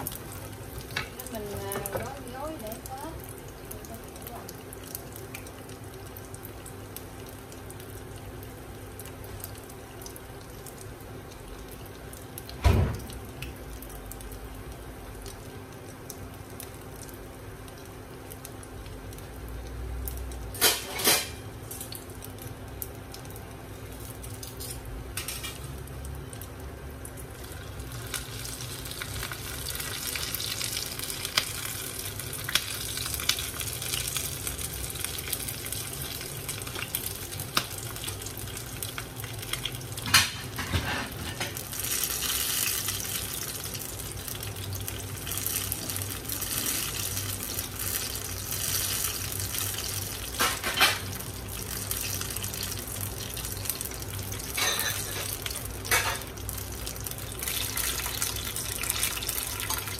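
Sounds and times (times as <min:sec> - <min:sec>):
spring rolls sizzling in oil: 0:00.0 - 0:59.9.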